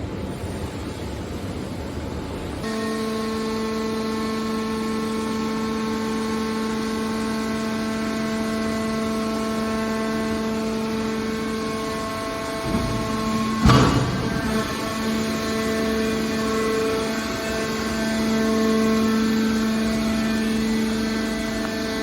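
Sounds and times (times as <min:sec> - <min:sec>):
machinery rumble: 0:02.6 - 0:22.0
pitched hum with overtones: 0:02.6 - 0:22.0.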